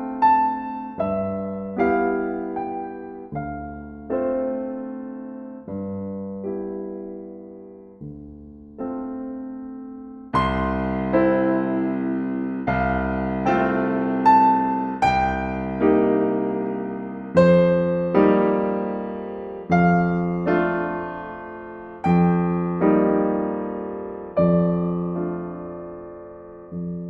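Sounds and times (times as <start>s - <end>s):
slow solo piano: 0.0s - 27.0s.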